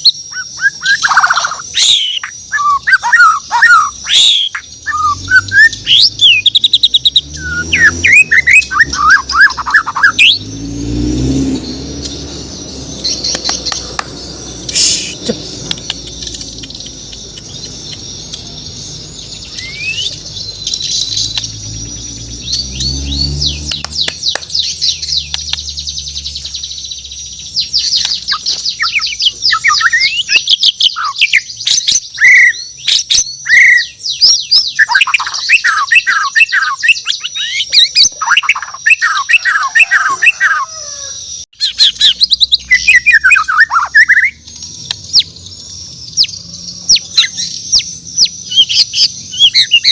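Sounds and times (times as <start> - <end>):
songbird singing varied whistles: 0.0 - 40.8, 41.6 - 49.9.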